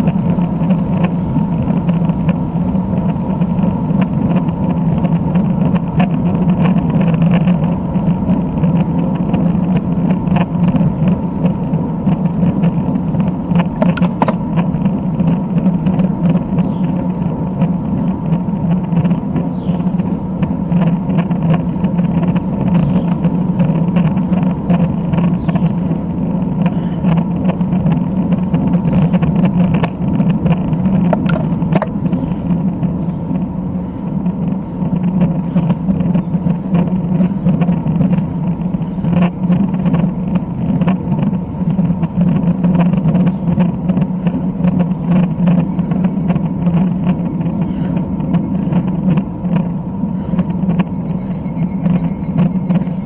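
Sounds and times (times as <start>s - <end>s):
bike rattles and clicks: 0.0s - 17.0s, 17.6s - 45.2s
bike tyres and wind rumble: 0.0s - 53.0s.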